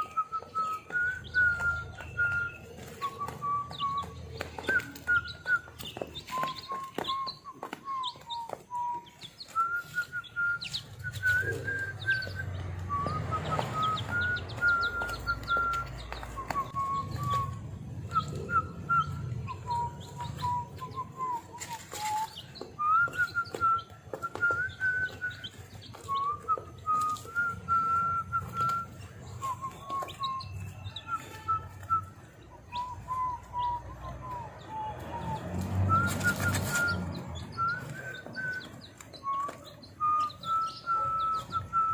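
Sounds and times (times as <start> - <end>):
chicks chirping: 0.0 - 41.9
chicks pecking at feed: 0.0 - 41.9
whistled tune: 0.0 - 41.9.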